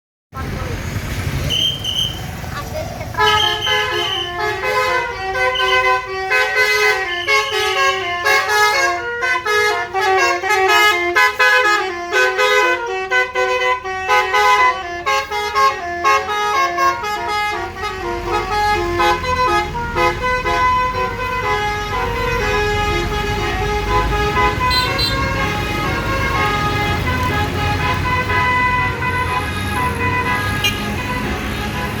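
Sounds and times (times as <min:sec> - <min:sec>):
bus engine running: 0:00.3 - 0:32.0
shrill musical air horn melody: 0:03.2 - 0:32.0.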